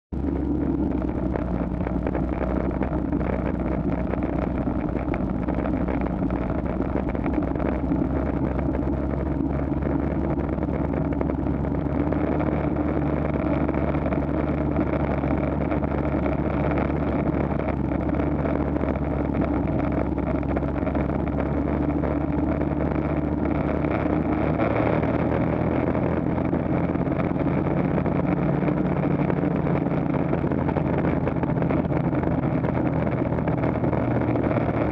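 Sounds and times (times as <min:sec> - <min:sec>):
snowmobile engine running: 0:00.2 - 0:34.9.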